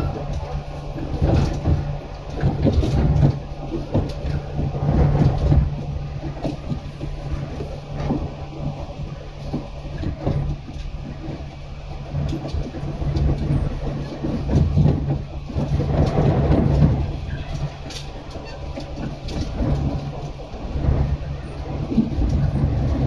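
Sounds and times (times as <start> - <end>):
wheels clicking over rail joints: 0.0 - 23.0.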